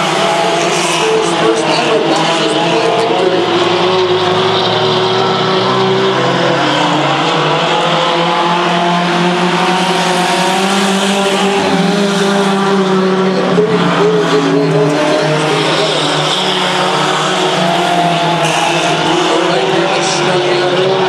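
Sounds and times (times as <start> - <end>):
race engines droning: 0.0 - 21.0.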